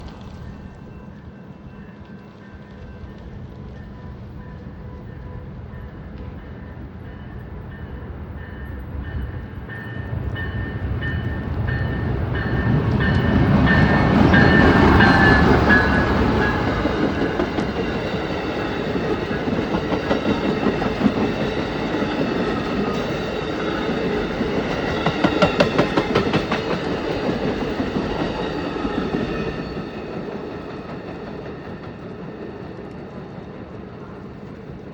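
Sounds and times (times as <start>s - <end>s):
passenger train passing: 0.0s - 34.9s
train bell dinging: 0.4s - 32.0s.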